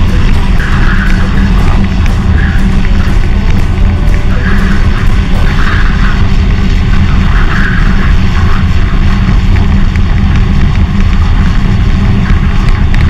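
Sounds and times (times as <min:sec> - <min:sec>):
heavy wind rumble: 0:00.0 - 0:13.0
tractor engine running: 0:00.0 - 0:13.0.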